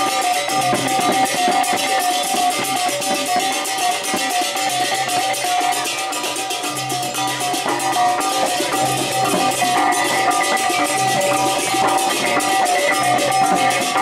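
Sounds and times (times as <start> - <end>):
fast percussion beats: 0.0 - 14.0
ringing metallic tones: 0.0 - 14.0.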